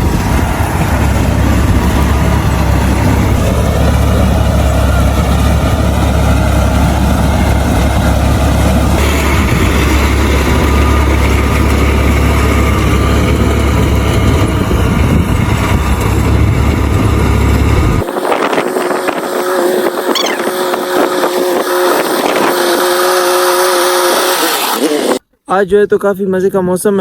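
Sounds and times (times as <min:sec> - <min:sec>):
steady mechanical whine: 0:00.0 - 0:25.2
tractor engine rumbling: 0:00.0 - 0:25.9.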